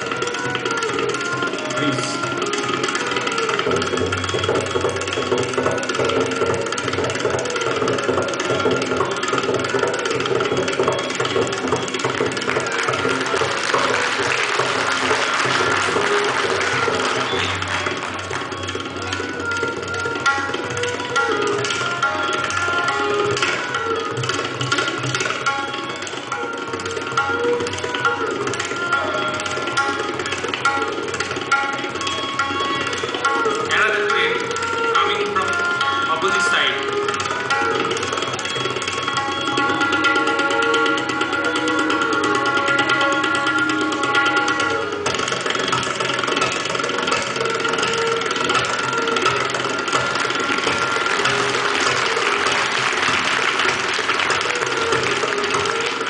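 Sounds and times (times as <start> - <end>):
rapid tabla strokes: 0.0 - 56.0.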